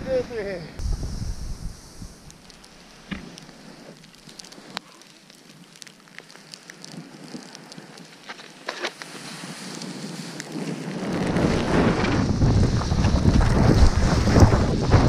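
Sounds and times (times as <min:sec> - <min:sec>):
snowboard hissing through powder snow: 0:00.0 - 0:05.7, 0:06.4 - 0:15.0
small crackles and clicks: 0:01.8 - 0:15.0.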